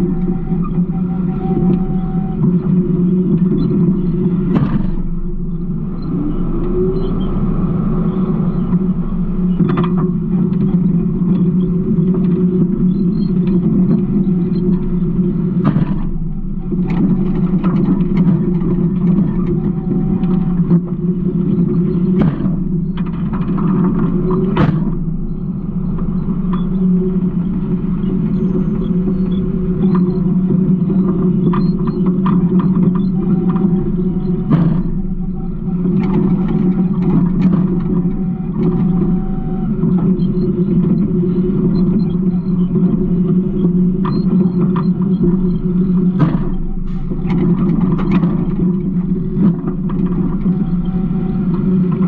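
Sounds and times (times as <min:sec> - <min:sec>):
garbage truck engine rumble: 0:00.0 - 0:52.0
sharp knocks and rattles: 0:01.6 - 0:05.6, 0:09.5 - 0:52.0.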